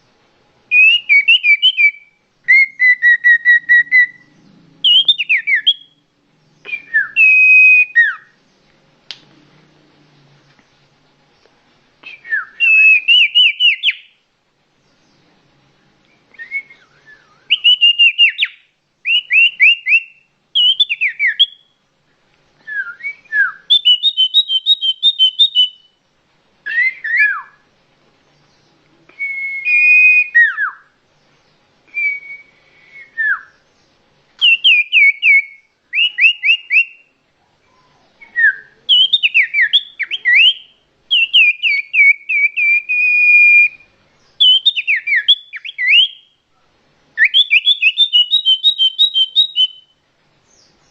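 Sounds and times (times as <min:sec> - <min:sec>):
bird whistled calls and trills: 0:00.7 - 0:08.6, 0:12.0 - 0:14.2, 0:16.1 - 0:21.8, 0:22.6 - 0:26.0, 0:26.6 - 0:27.6, 0:28.4 - 0:37.1, 0:37.7 - 0:46.4, 0:47.2 - 0:50.9.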